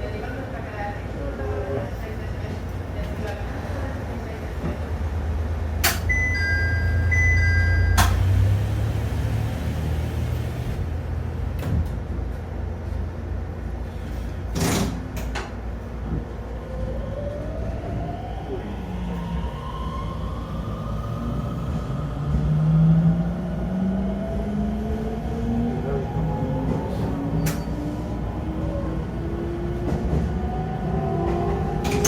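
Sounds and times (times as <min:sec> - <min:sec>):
railcar low rumble: 0:00.0 - 0:32.0.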